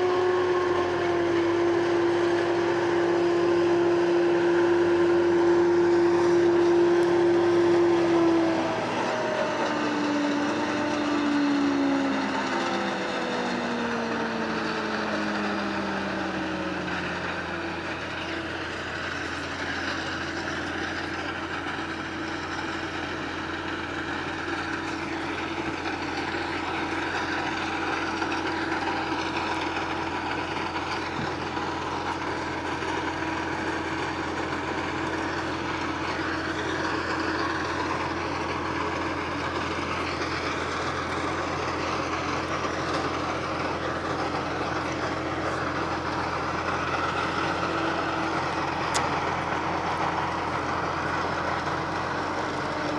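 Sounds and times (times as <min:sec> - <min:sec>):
forage harvester chopping corn: 0:00.0 - 0:52.9
tractor engines running: 0:00.0 - 0:52.9.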